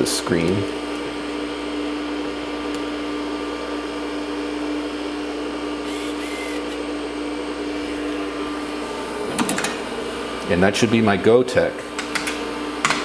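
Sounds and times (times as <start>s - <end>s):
computer fan and hard drive hum: 0.0s - 13.0s.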